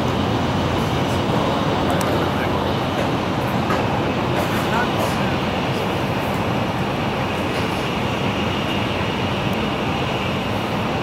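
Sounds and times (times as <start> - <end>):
train running noise from cabin: 0.0 - 11.0.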